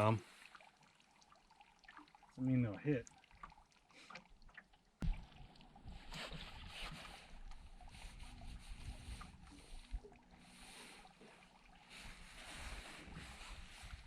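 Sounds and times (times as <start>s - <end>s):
water splashing against hull: 0.0s - 14.0s.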